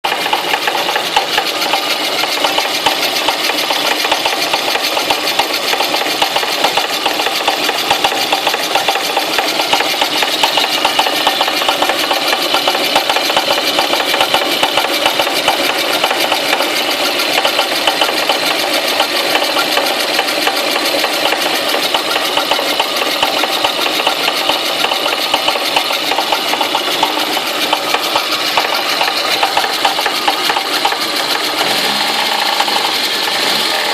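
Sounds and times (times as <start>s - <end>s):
rapid knocking from pulley: 0.0s - 33.9s
car engine running: 0.1s - 33.9s.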